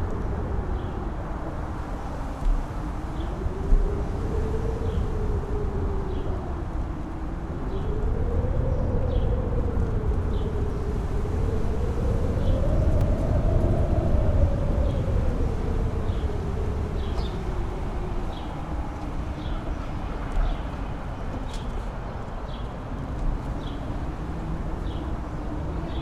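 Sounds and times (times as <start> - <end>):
wind howling: 0.0 - 26.0.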